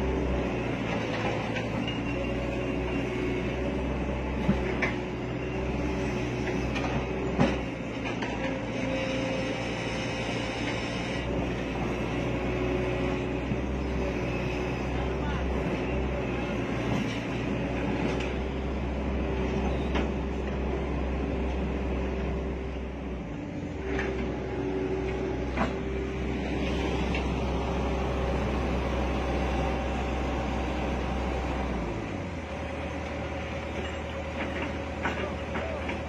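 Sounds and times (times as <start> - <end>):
excavator diesel engines running: 0.0 - 36.0.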